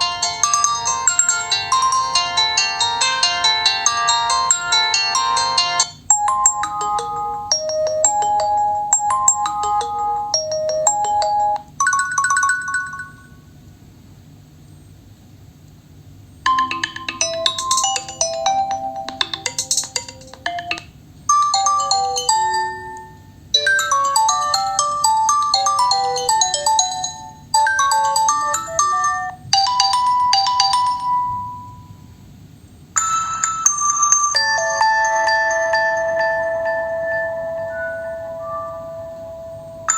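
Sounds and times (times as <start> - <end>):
electronic ringtone melodies: 0.0 - 13.4, 16.5 - 32.0, 33.0 - 39.9.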